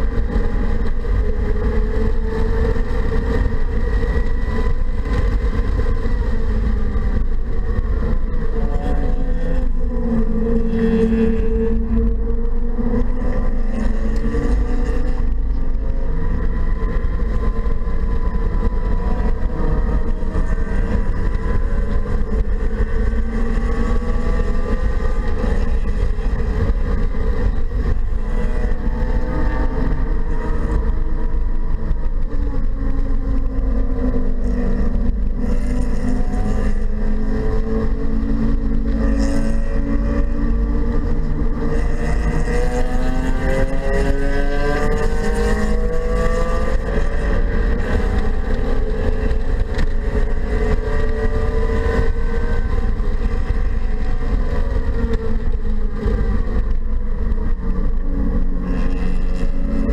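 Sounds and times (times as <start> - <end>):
car engine revving: 0.0 - 59.9
road and wind rumble: 0.0 - 59.9.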